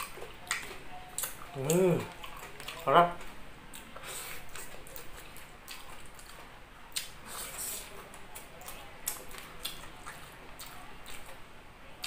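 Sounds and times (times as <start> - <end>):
person chewing and smacking lips: 0.0 - 11.4.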